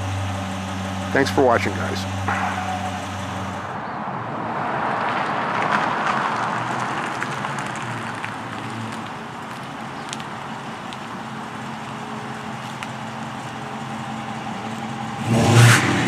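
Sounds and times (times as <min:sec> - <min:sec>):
car engine at low speed: 0:00.0 - 0:16.0
tyre and road noise: 0:00.0 - 0:16.0.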